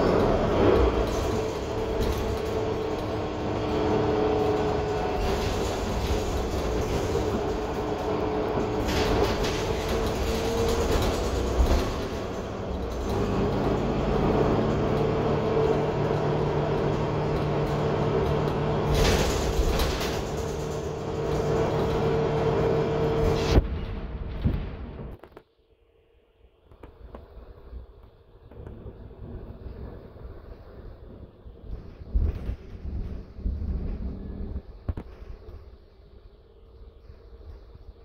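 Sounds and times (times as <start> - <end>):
bus diesel engine running: 0.0 - 25.1, 28.2 - 38.0
low hum: 0.0 - 38.0
road rumble: 0.0 - 38.0.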